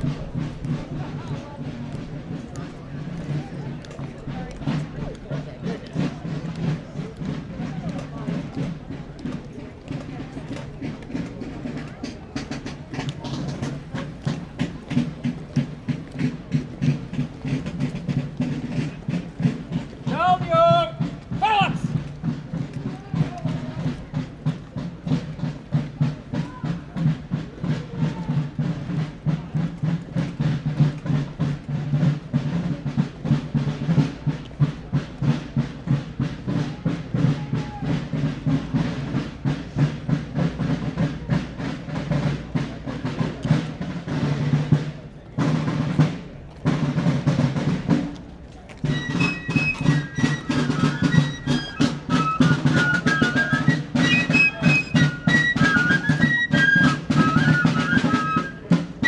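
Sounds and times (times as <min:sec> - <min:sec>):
snare drums rolling cadence: 0:00.0 - 0:59.0.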